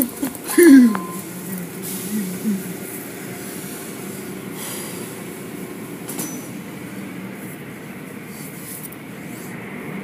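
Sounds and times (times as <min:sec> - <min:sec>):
mechanical hum and rush: 0:00.0 - 0:10.0.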